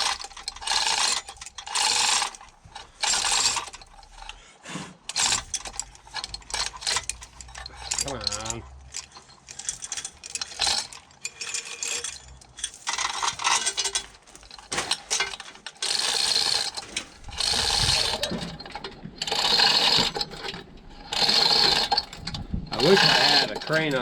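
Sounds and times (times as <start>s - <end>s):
metal clicking and clanking: 0.0s - 4.4s, 5.1s - 24.0s
rasping ratchet strokes: 0.0s - 24.0s.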